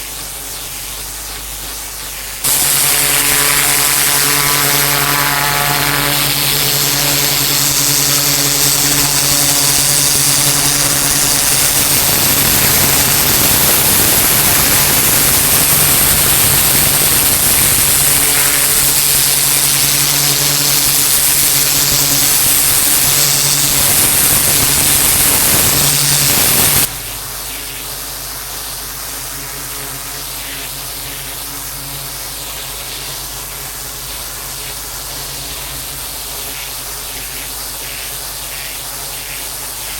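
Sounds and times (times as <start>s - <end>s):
water jet spraying onto paving: 0.9s - 39.9s
pressure washer engine humming: 1.0s - 36.3s.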